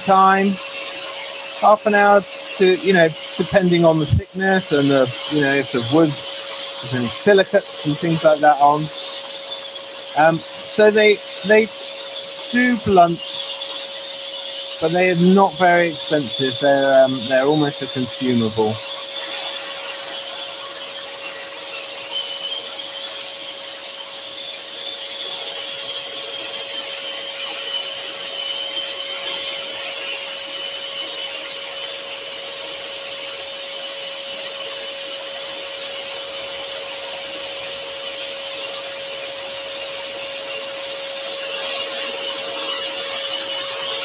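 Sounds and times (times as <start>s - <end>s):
scroll saw cutting wood: 0.0s - 44.0s.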